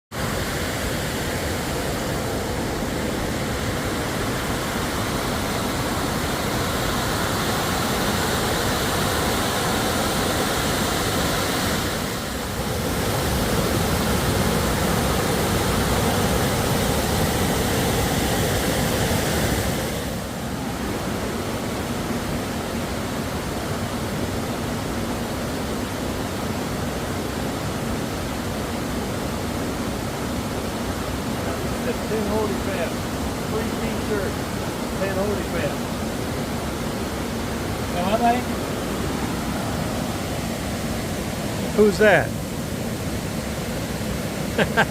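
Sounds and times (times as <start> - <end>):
water rushing over dam: 0.1 - 44.9.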